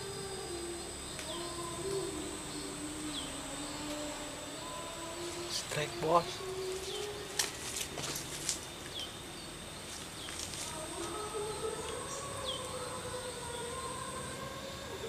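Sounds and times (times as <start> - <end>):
distant wavering siren-like tone: 0.0 - 9.8, 10.6 - 15.0
high-pitched insect drone: 0.0 - 15.0.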